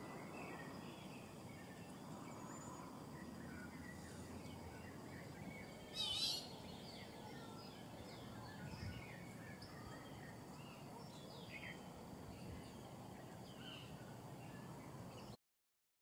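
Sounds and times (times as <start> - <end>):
small birds chirping: 0.0 - 15.4.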